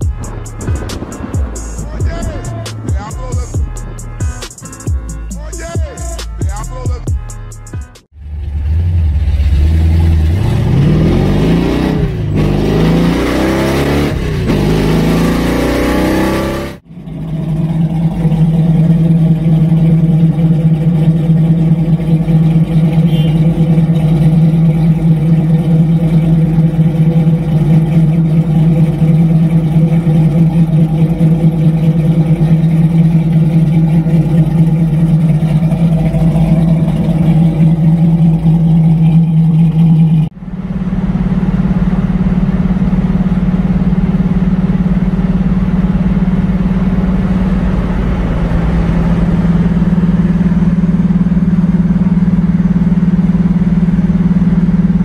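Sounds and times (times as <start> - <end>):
car engine idling: 0.0 - 55.0
car engine revving: 0.0 - 55.0.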